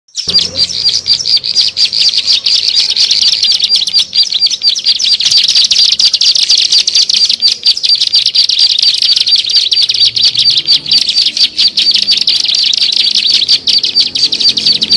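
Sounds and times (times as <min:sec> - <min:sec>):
bird rapid high chirps: 0:00.1 - 0:14.9.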